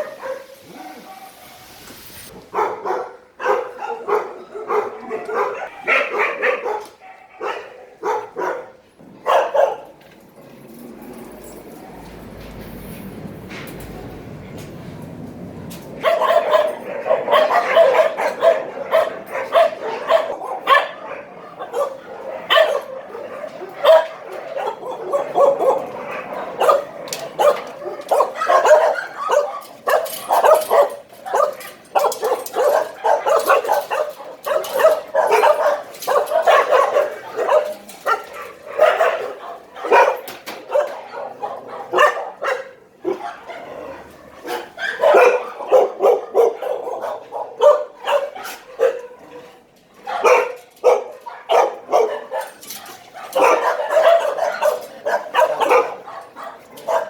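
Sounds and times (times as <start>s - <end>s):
dogs barking and yipping: 0.0s - 57.0s.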